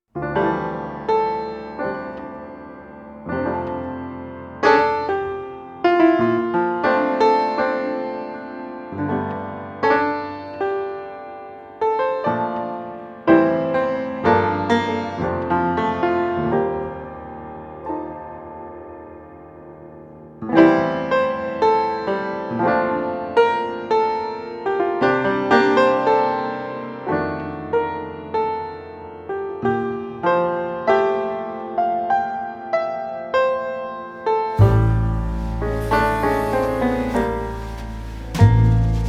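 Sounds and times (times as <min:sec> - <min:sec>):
slow solo piano: 0:00.1 - 0:39.0.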